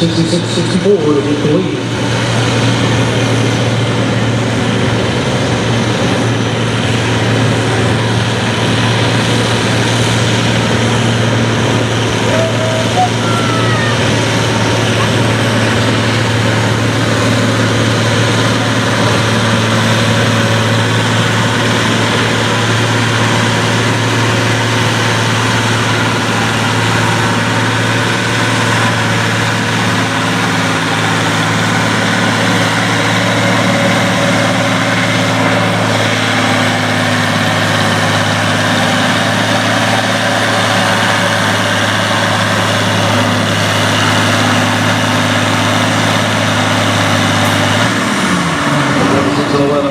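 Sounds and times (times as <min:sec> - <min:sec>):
tractor engine idling: 0:00.0 - 0:49.9.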